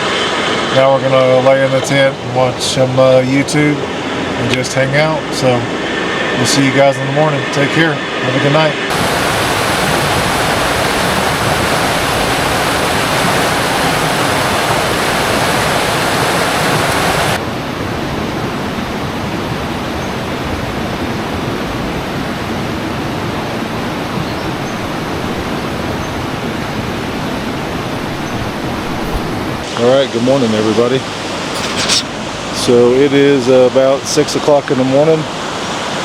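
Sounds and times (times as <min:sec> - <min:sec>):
river water rushing: 0:00.0 - 0:06.4, 0:08.3 - 0:36.0.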